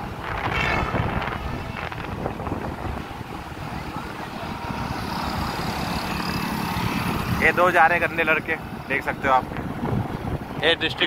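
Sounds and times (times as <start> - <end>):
passing traffic: 0.0 - 11.0
wind buffeting microphone: 0.0 - 11.0.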